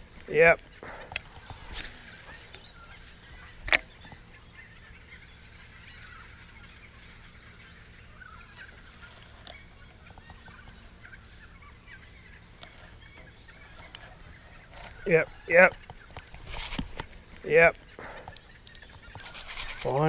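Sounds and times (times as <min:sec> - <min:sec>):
faint distant bird calls: 0:00.0 - 0:20.0.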